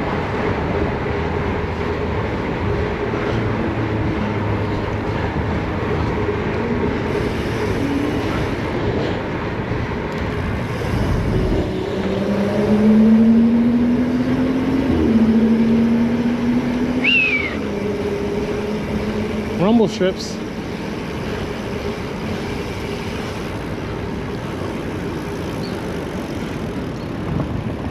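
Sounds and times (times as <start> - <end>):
bicycle riding noise: 0.0 - 27.9
city traffic: 0.0 - 27.9
vehicle engine hum: 0.0 - 27.9.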